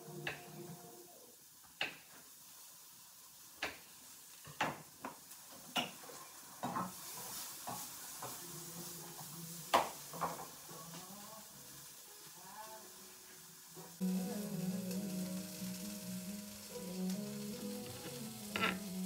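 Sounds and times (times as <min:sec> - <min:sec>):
faint rustling hiss: 0:00.0 - 0:19.0.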